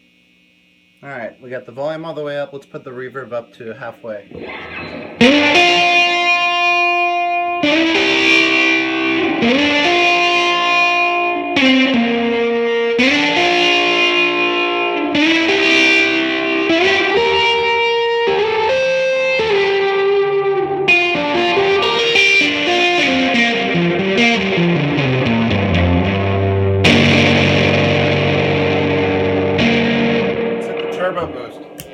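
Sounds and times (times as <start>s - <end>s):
overdriven electric guitar chords: 4.2s - 31.9s.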